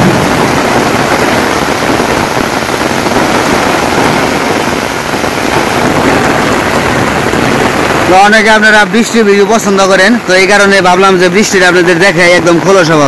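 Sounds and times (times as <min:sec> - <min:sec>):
heavy rain on trees: 0:00.0 - 0:13.0
wind buffeting the microphone: 0:00.0 - 0:13.0.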